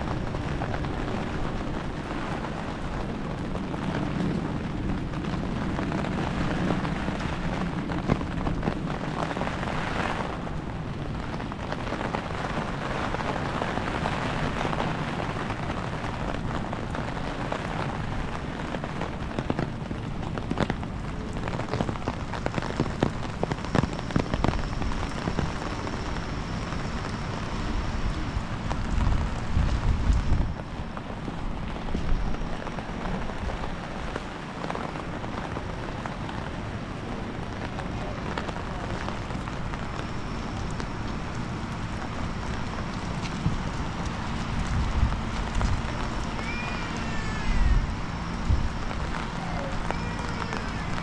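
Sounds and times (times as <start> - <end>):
low rumble: 0.0 - 51.0
rain falling in wind: 0.0 - 51.0.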